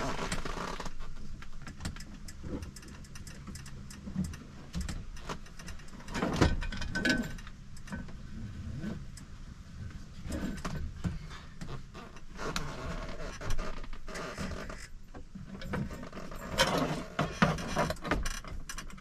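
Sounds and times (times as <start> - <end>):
hands clicking and rattling fittings: 0.0 - 8.2, 10.3 - 19.0
steady low hum: 0.0 - 17.6.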